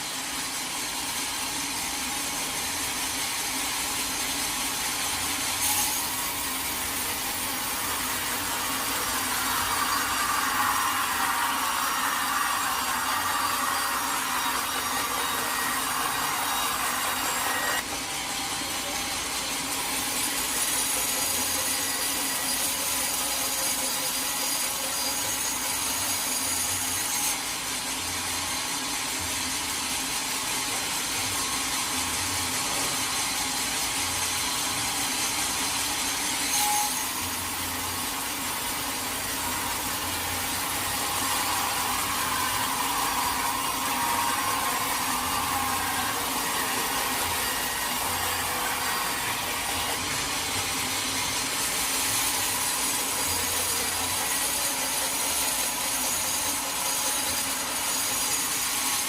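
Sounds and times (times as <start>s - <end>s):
saw cutting through log: 0.0s - 59.0s.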